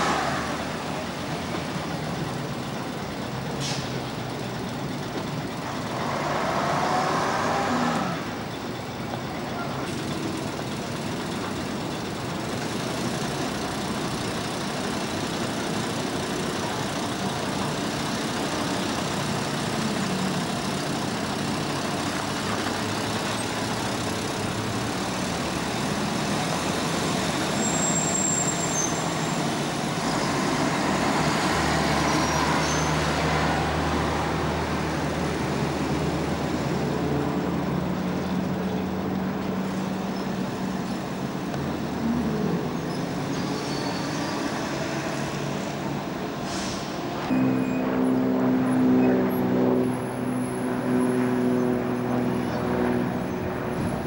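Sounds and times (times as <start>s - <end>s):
diesel bus engine: 0.0s - 54.0s
street traffic noise: 0.0s - 54.0s.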